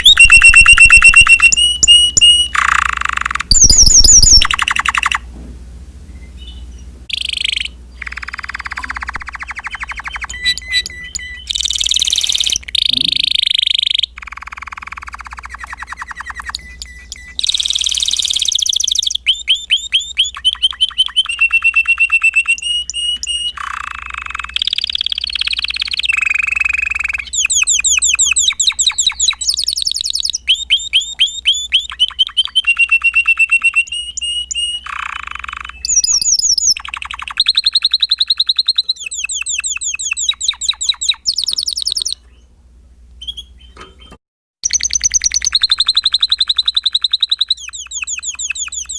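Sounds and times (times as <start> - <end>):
canary singing trills: 0.0 - 5.3, 6.1 - 42.5, 43.2 - 48.9.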